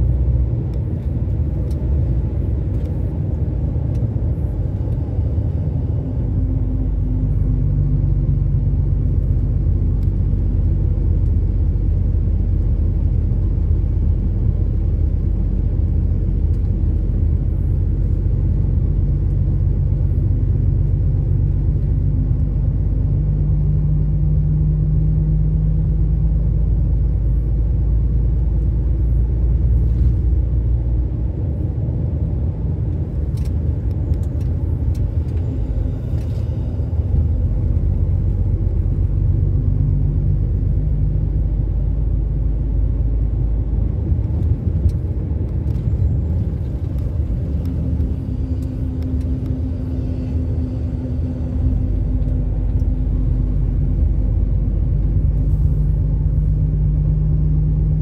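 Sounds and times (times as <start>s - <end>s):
vehicle engine running: 0.0s - 58.0s
wind and road noise rumble: 0.0s - 58.0s.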